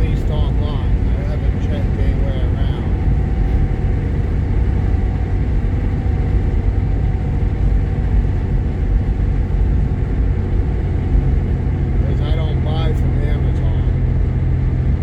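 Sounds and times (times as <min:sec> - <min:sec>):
engine and road noise in car cabin: 0:00.0 - 0:15.0.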